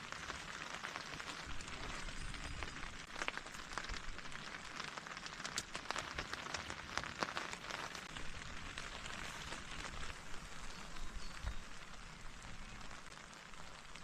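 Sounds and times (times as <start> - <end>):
rain pattering on a tent: 0.0 - 14.0
raindrops tapping close by: 0.0 - 14.0.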